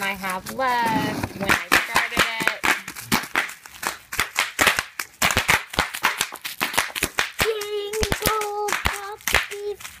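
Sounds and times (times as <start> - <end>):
bubble wrap popping: 0.0 - 10.0.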